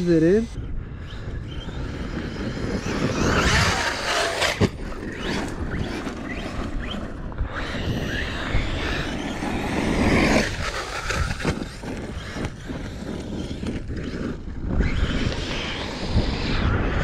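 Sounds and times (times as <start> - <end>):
rc truck electric motor whine: 0.0 - 17.0
wind buffeting microphone: 0.0 - 17.0.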